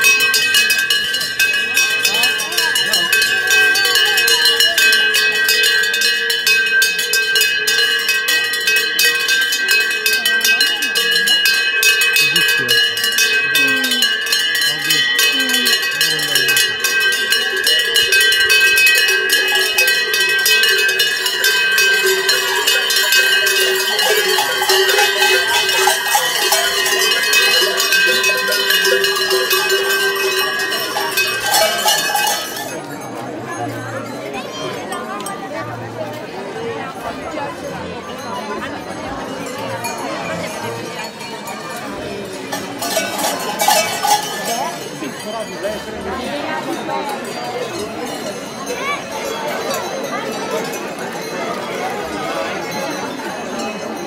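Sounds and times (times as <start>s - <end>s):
cowbells clanging: 0.0s - 36.2s, 36.8s - 54.0s.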